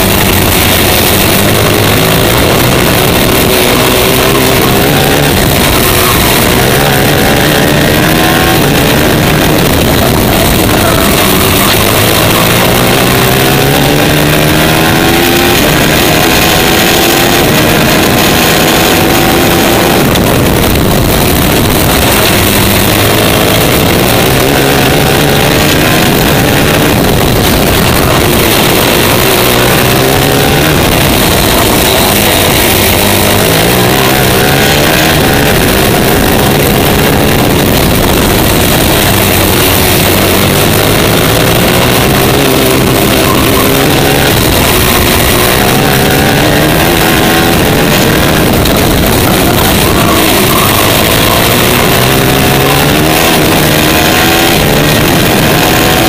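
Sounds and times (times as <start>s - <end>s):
kart engine at racing speed: 0.0s - 56.0s.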